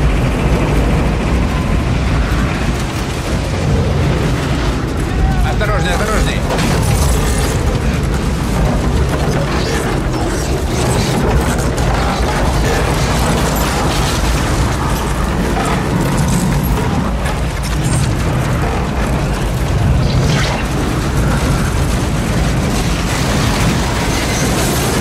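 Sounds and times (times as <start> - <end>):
debris clattering and banging: 0.0 - 25.0
tornado wind rushing: 0.0 - 25.0.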